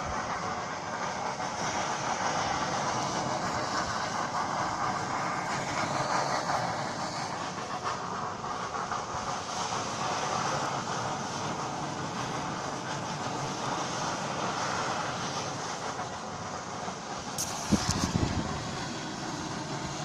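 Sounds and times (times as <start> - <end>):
loud rushing gas hiss: 0.0 - 20.0.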